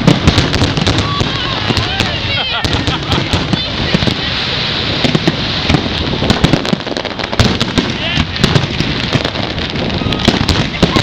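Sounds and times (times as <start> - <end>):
fireworks bursting and crackling: 0.0 - 11.0
crowd talking: 0.7 - 11.0.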